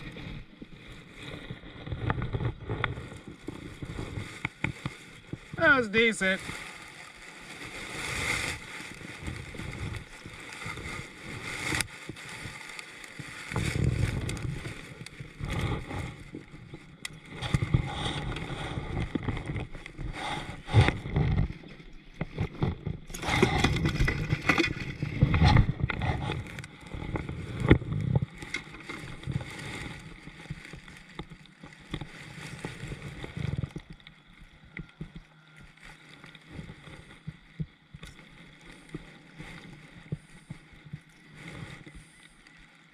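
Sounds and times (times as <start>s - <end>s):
water sloshing against a hull: 0.0s - 42.9s.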